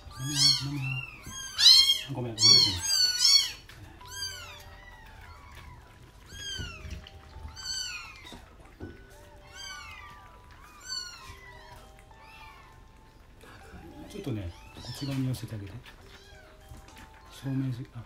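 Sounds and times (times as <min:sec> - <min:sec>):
kittens mewing: 0:00.0 - 0:17.3.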